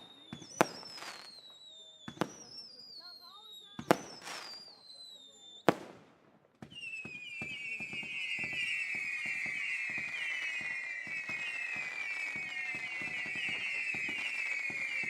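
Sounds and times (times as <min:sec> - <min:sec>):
firework whistles: 0:00.0 - 0:05.9, 0:06.6 - 0:15.0
firework pops and crackles: 0:00.0 - 0:15.0.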